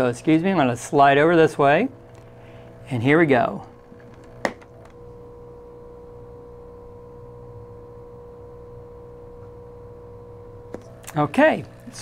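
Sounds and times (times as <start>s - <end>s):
pump primer humming: 0.0s - 12.0s.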